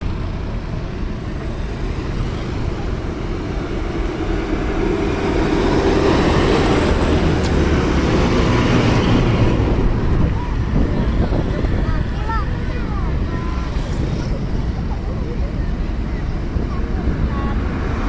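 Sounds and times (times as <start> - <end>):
trucks driving past: 0.0 - 18.0.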